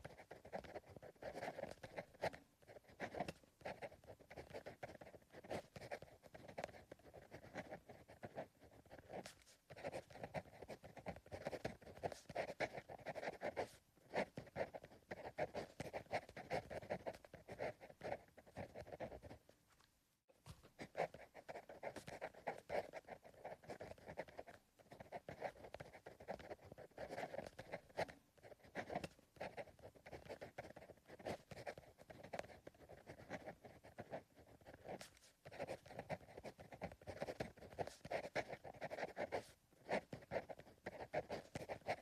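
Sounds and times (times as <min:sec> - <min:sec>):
pencil scratching on paper: 0:00.0 - 0:19.6, 0:20.4 - 0:42.0.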